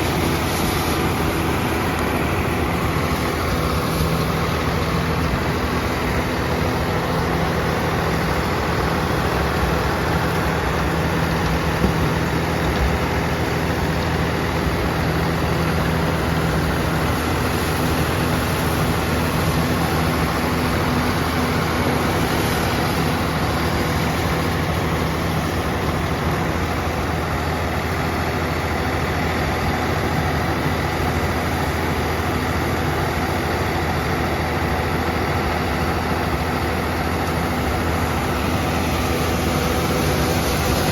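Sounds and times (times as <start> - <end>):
tiller mechanical rumble: 0.0 - 40.9
tractor diesel engine running: 0.0 - 40.9.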